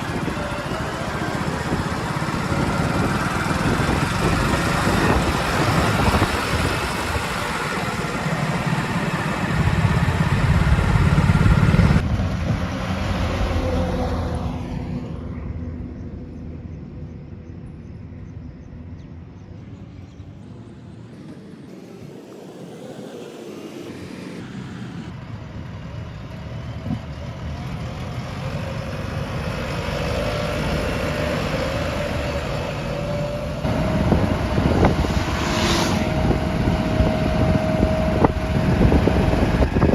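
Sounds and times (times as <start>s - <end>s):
diesel engine running: 0.0s - 17.5s, 25.1s - 39.9s.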